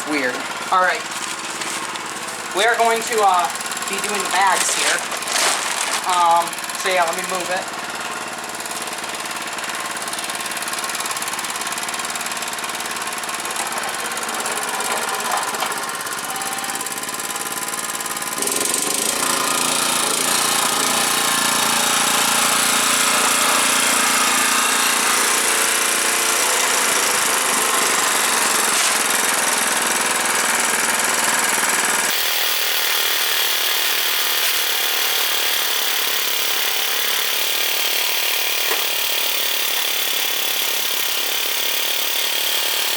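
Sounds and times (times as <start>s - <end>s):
lawn mower engine running: 0.0s - 42.9s.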